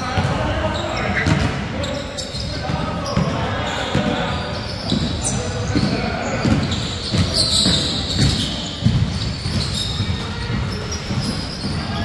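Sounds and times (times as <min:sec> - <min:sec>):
basketball bouncing on indoor court: 0:00.0 - 0:12.0
players' voices: 0:00.0 - 0:12.0.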